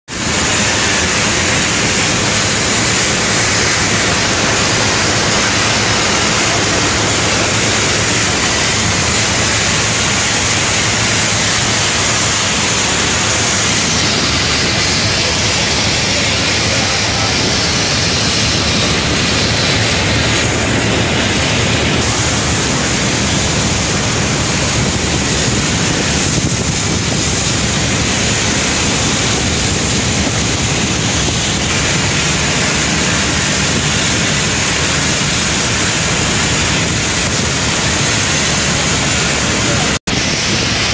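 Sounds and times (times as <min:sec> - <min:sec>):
steady loud rushing noise: 0:00.0 - 0:40.9.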